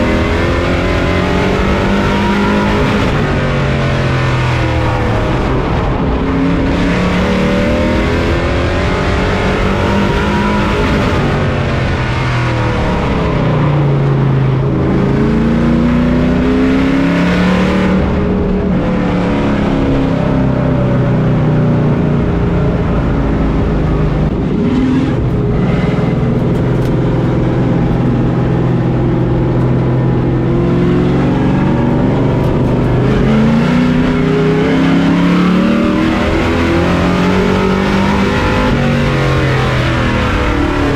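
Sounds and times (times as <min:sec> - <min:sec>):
race truck engine: 0:00.0 - 0:40.9.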